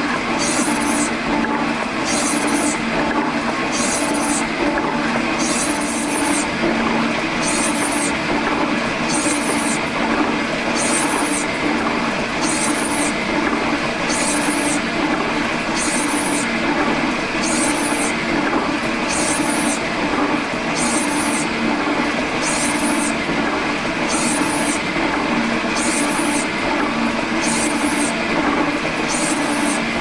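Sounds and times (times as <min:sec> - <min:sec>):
metal shaper pulsing hum: 0:00.0 - 0:30.0.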